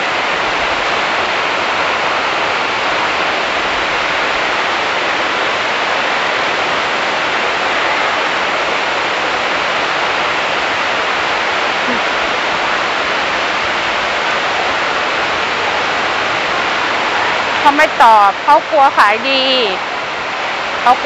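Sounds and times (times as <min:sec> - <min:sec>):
heavy rain on shed roof: 0:00.0 - 0:21.0.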